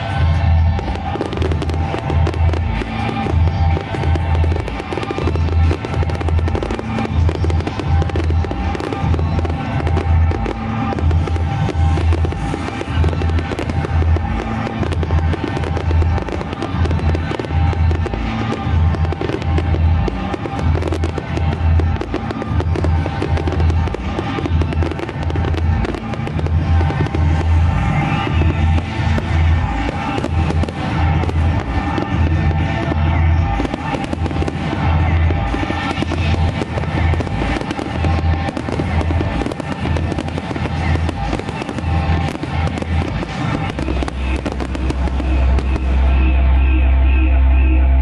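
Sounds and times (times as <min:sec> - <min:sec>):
fireworks bursting and crackling: 0:00.0 - 0:48.0
loud music with a beat: 0:00.0 - 0:48.0.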